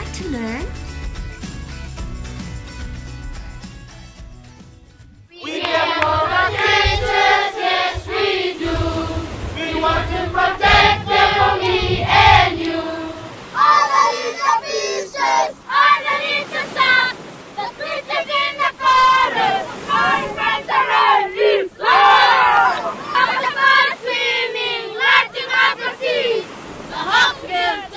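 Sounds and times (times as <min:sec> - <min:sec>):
children singing: 0:05.3 - 0:27.9.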